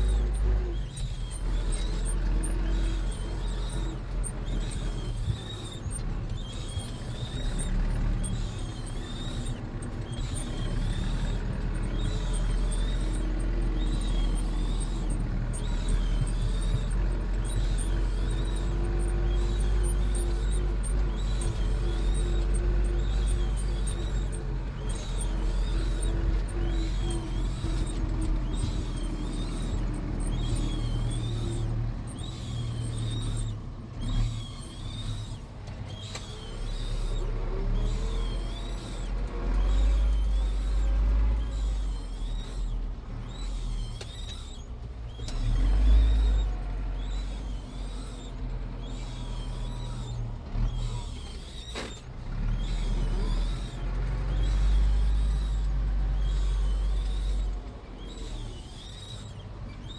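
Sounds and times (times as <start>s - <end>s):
tractor diesel engine rumbling: 0.0s - 59.9s.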